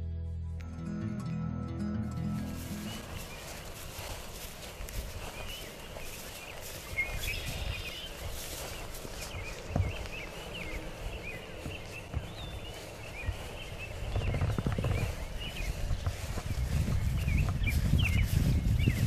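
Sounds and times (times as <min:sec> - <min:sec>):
birds chirping: 0:01.8 - 0:19.0.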